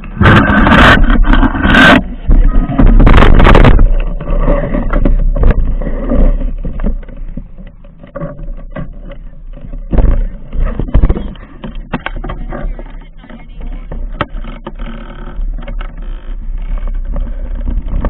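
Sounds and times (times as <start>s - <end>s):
camera rubbing against clothing: 0.0s - 18.0s.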